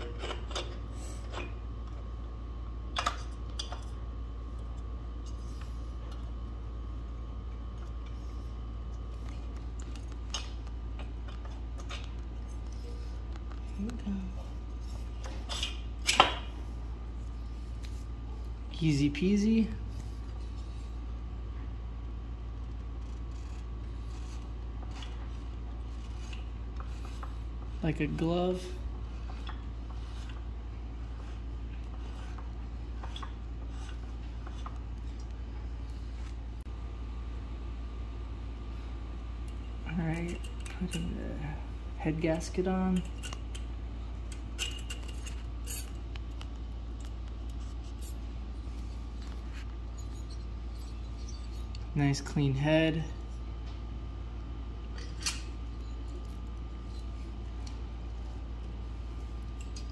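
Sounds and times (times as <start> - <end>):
low workshop hum: 0.0 - 59.9.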